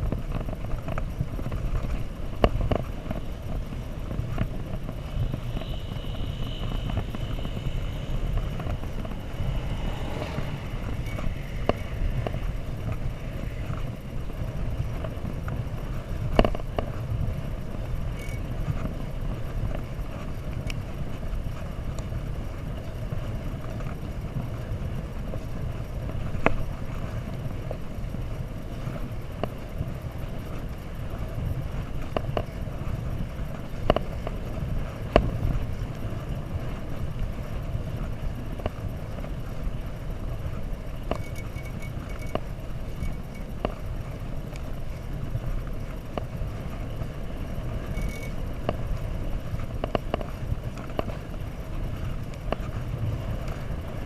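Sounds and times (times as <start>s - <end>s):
road rumble: 0.0s - 54.0s
wind on microphone: 0.0s - 54.0s.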